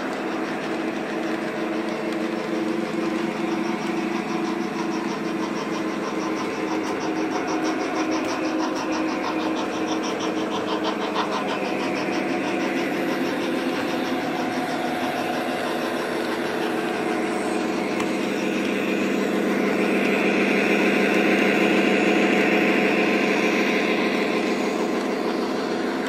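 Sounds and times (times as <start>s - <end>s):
model train diesel engine droning: 0.0s - 26.0s
model train wheels rolling on track: 0.0s - 26.0s.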